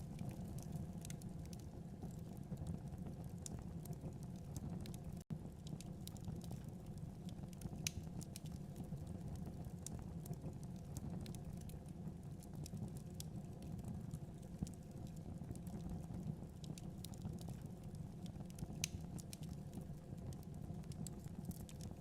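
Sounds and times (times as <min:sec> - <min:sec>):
fire crackles and pops: 0:00.0 - 0:22.0
low rumble of flames: 0:00.0 - 0:22.0.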